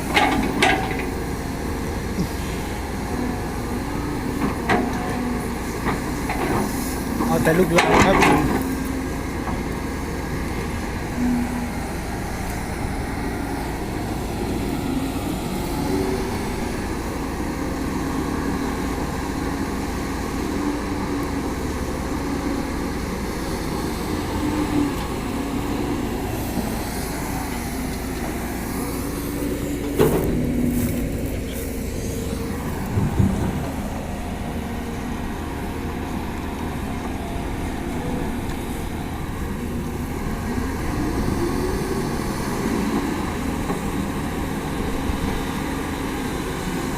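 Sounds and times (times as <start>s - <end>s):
excavator diesel engine under load: 0.0s - 46.9s.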